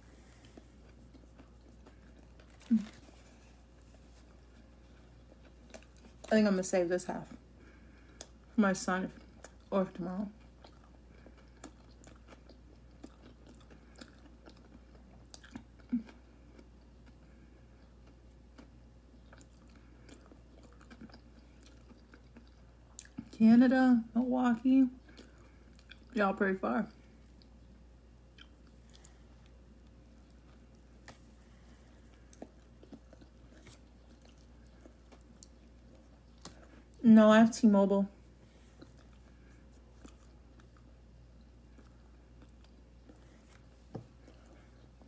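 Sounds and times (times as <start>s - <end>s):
person chewing: 0.0s - 6.3s, 7.4s - 8.6s, 10.3s - 23.3s, 25.0s - 26.1s, 27.1s - 37.0s, 38.2s - 45.0s.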